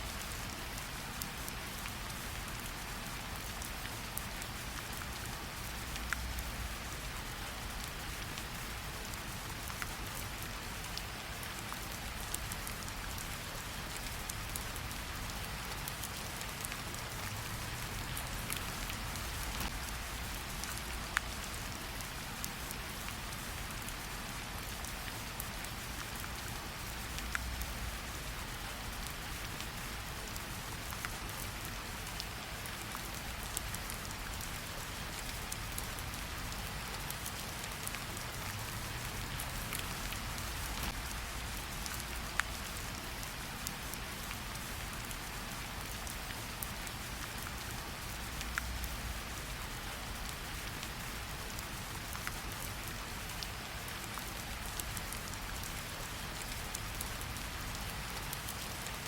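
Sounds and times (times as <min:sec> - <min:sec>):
light rain on leaves: 0:00.0 - 0:59.0.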